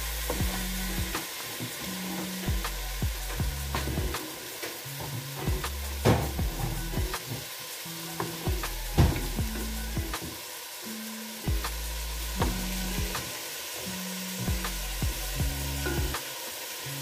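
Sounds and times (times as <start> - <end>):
background music with low bass: 0.0 - 17.0
food sizzling in a pot: 0.0 - 17.0.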